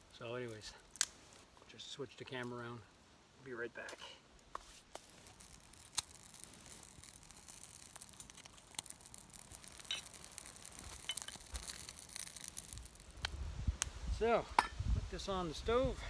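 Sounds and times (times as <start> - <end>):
fire hissing: 0.0 - 16.0
wood fire crackling: 0.0 - 16.0.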